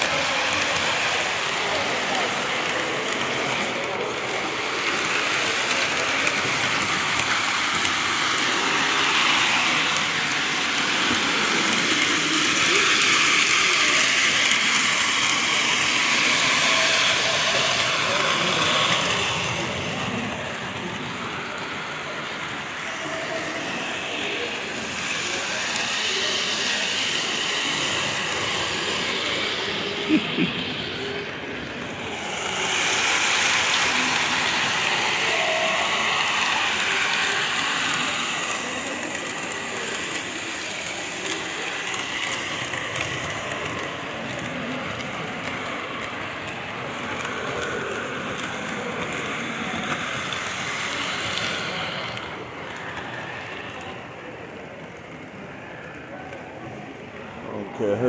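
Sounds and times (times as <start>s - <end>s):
hall background noise: 0.0s - 58.0s
model train rumbling on track: 0.0s - 58.0s.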